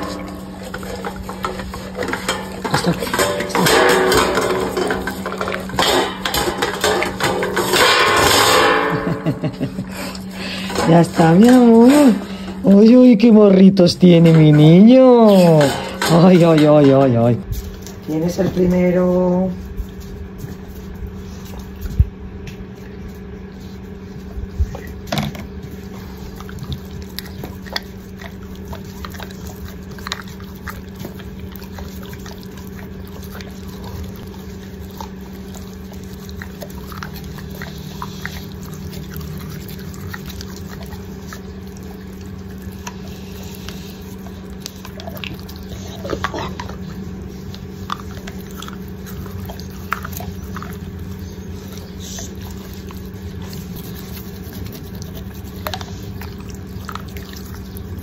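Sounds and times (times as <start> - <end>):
dog mouth licking and smacking: 0.0 - 58.0
steady low hum: 0.0 - 58.0.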